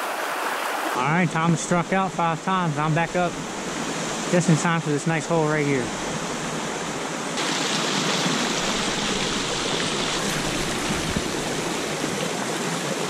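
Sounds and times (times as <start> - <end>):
stream rushing water: 0.0 - 13.0.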